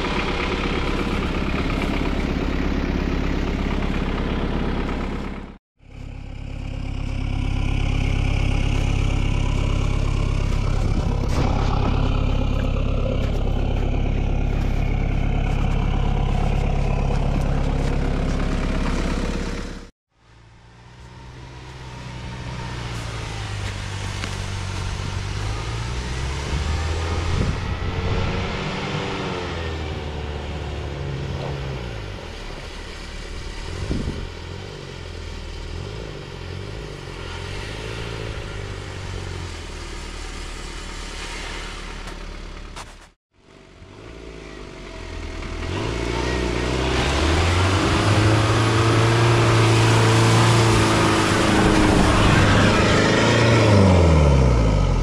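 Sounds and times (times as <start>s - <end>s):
engine revving in mud: 0.0s - 19.9s, 20.9s - 55.0s.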